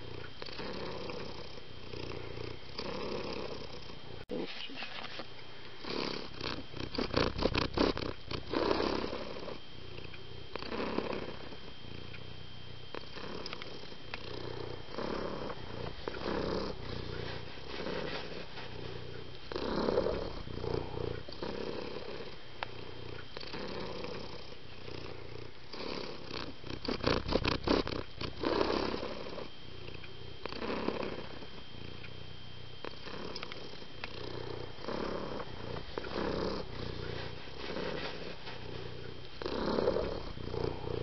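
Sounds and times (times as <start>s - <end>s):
cat purring: 0.0s - 5.2s, 5.8s - 41.0s.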